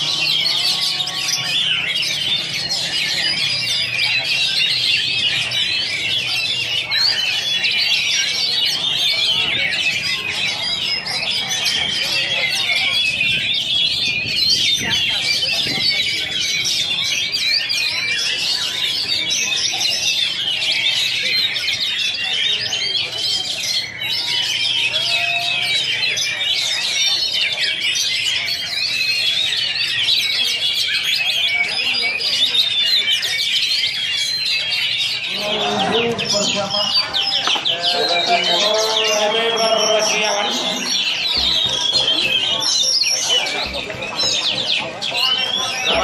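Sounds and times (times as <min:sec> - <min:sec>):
bird singing chirps and whistles: 0:00.0 - 0:46.0.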